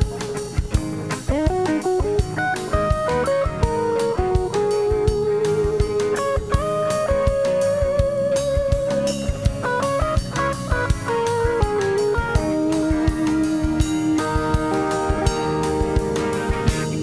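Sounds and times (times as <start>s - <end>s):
bass guitar: 0.0s - 17.0s
drum kit beat: 0.0s - 17.0s
electric guitar lead melody: 0.0s - 17.0s.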